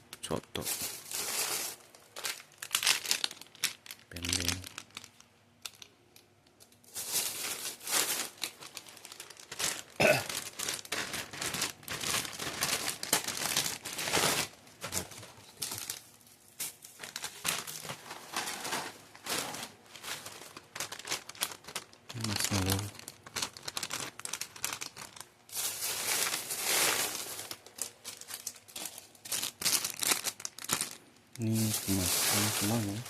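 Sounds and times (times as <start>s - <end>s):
plastic wrappers crinkling: 0.2s - 33.0s.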